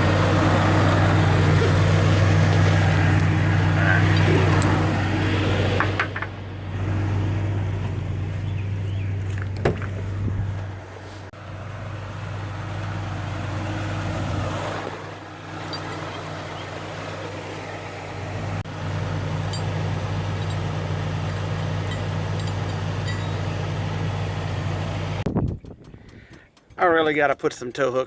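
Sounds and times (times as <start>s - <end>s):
vehicle engine idling: 0.0s - 27.4s.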